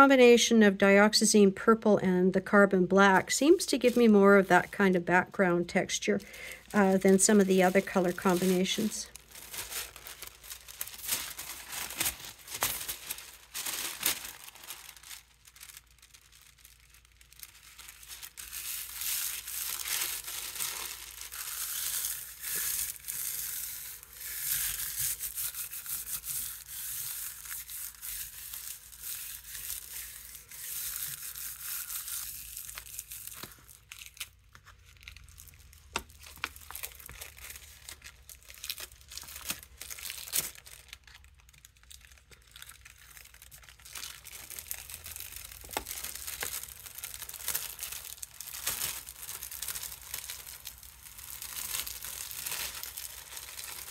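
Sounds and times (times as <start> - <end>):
tissue paper rustling and crinkling: 3.1 - 5.2, 5.8 - 53.9.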